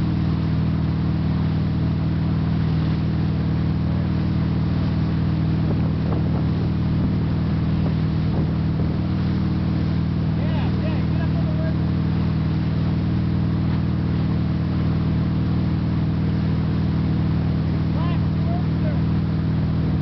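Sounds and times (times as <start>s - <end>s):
boat engine drone: 0.0s - 20.0s
churning wake rushing: 0.0s - 20.0s.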